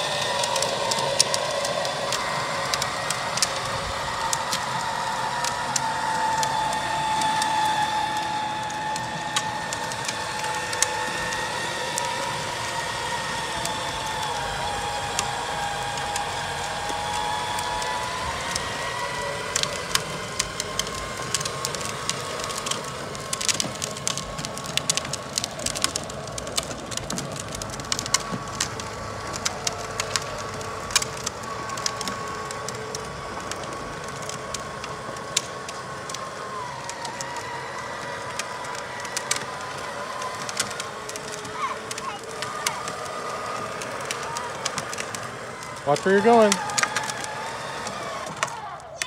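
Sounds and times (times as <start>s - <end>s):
grit crackling under wheels: 0.0s - 49.0s
plastic wheels rolling on asphalt: 0.0s - 49.0s
wavering high whine: 0.0s - 49.0s.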